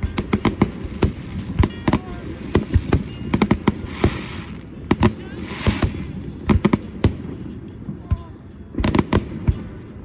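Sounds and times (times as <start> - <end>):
fireworks bursting with sharp bangs: 0.0 - 10.0
fireworks crackle: 0.0 - 10.0.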